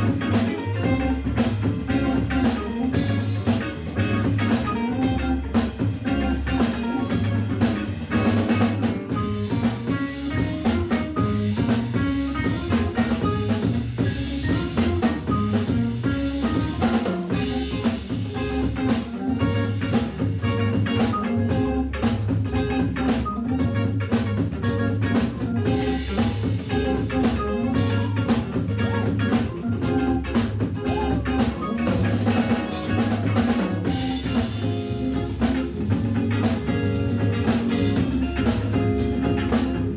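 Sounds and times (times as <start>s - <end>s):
drum kit beat: 0.0s - 39.9s
guitar: 0.0s - 39.9s
organ playing jazz: 0.0s - 39.9s.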